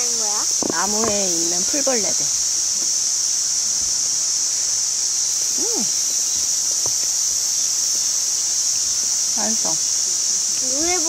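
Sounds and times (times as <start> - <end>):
insects singing: 0.0 - 11.0.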